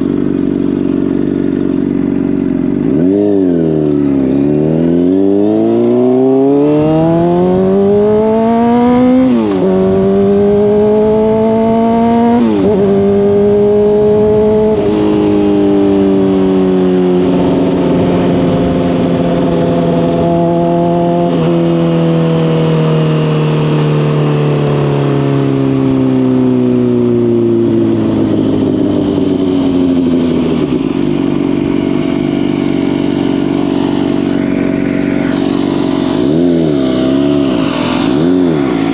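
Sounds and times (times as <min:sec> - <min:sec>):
sport bike accelerating: 0:00.0 - 0:38.9.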